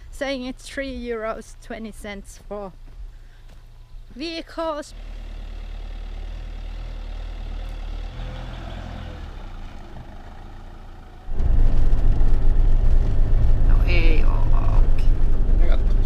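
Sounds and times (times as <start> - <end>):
van engine idling: 2.7 - 16.0.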